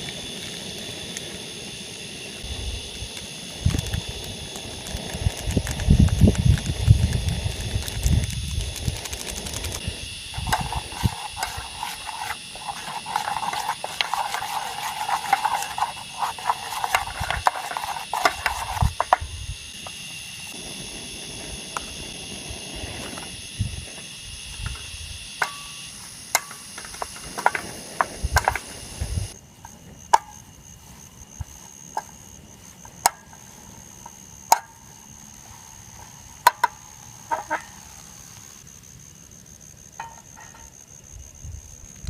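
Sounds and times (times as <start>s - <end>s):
hiss: 0.0s - 42.0s
insects calling: 0.0s - 42.0s.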